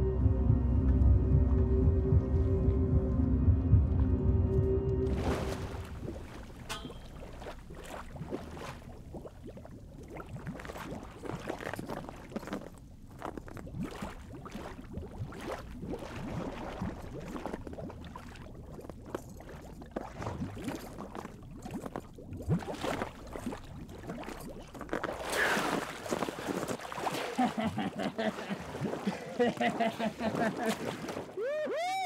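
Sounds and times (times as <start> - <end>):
water slapping against buoy: 5.0 - 31.4
water lapping and sloshing: 5.0 - 31.6.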